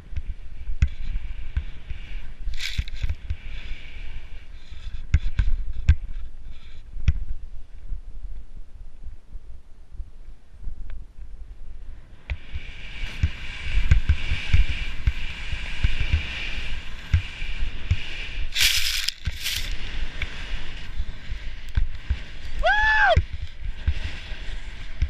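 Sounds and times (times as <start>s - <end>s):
snowboard carving through snow: 0.0s - 8.2s, 11.8s - 25.0s
wind buffeting microphone: 0.0s - 25.0s.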